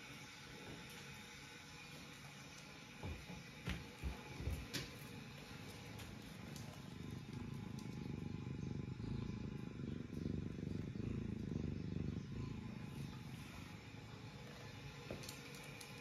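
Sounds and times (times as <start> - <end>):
cat purring: 0.5 - 16.0.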